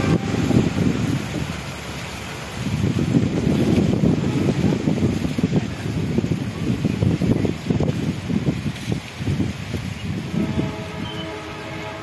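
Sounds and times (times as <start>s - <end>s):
train rumbling: 0.0s - 12.0s
wind buffeting microphone: 0.0s - 12.0s.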